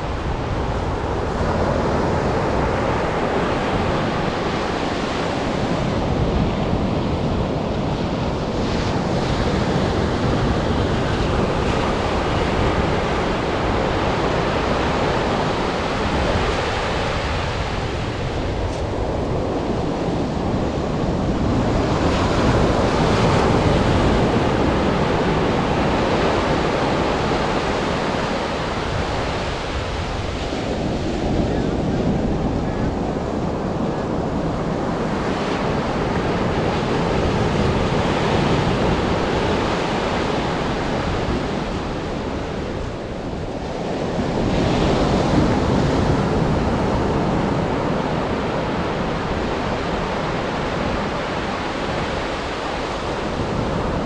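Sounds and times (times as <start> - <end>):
wind rumbling on microphone: 0.0 - 54.0.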